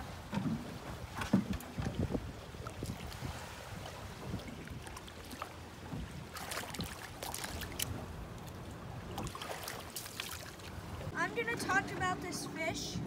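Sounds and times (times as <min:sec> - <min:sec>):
low rumble of moving water: 0:00.0 - 0:13.0
water splashing and dripping: 0:00.2 - 0:11.1.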